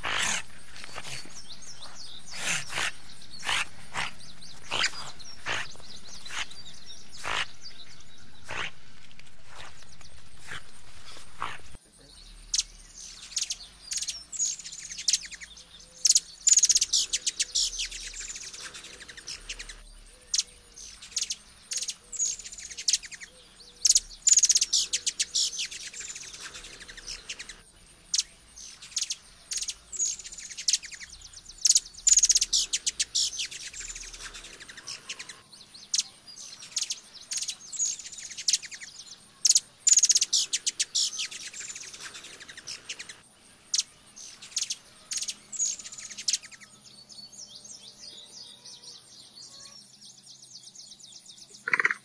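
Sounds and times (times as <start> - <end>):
hummingbird chipping calls: 0.0 - 46.7, 51.6 - 52.0.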